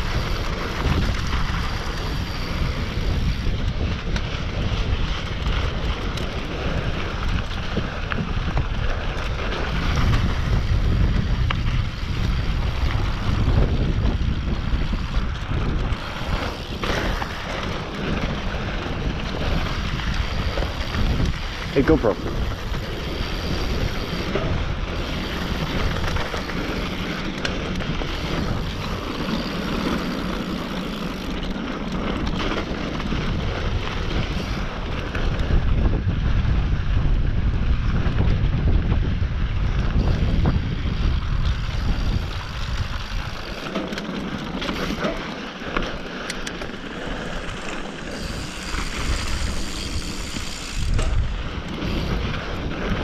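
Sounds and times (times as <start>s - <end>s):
tyres rushing on dirt trail: 0.0s - 53.0s
wind buffeting microphone: 0.0s - 53.0s.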